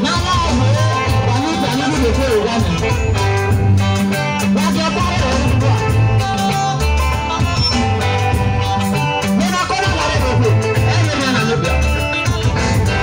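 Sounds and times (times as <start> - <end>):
electric guitar: 0.0 - 13.0
live band music: 0.0 - 13.0.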